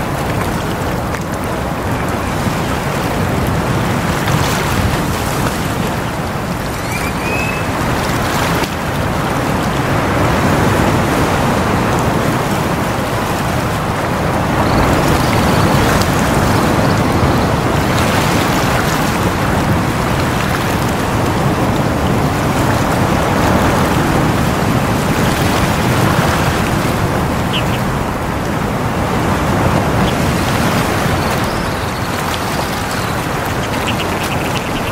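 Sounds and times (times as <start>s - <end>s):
waves breaking over rocks: 0.0s - 34.9s.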